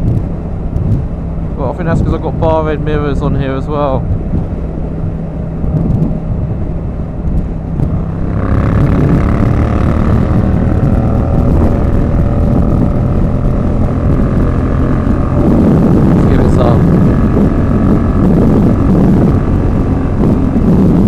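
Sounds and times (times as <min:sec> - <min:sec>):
motorcycle engine drone: 0:00.0 - 0:21.0
wind rush on microphone: 0:00.0 - 0:21.0.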